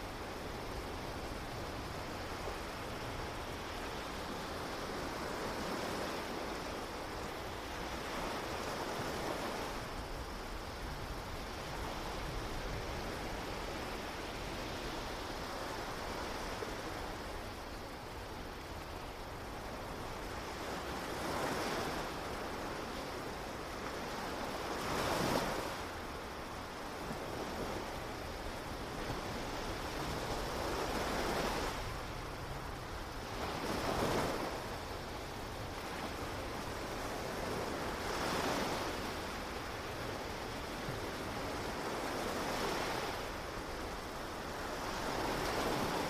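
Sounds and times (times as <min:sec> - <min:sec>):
ocean waves breaking on beach: 0:00.0 - 0:46.0.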